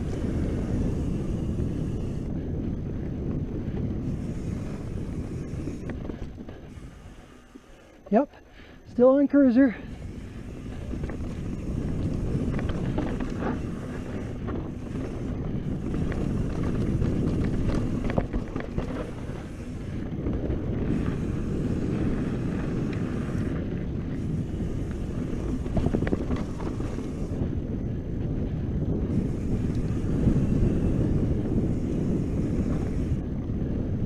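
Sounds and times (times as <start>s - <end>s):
bike tyres rumbling over dirt: 0.0s - 34.0s
wind buffeting microphone: 0.0s - 34.0s.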